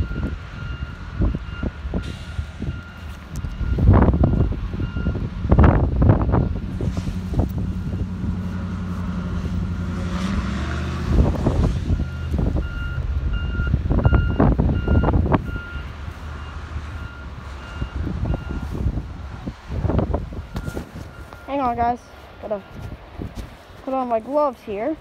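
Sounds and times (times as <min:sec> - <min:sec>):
truck reversing alarm beeping: 0:00.0 - 0:23.0
truck engine rumble: 0:00.0 - 0:25.0.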